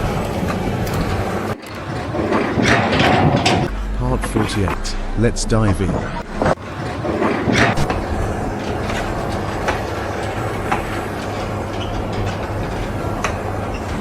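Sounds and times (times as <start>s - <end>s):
mechanical rumble and clatter: 0.0s - 14.0s.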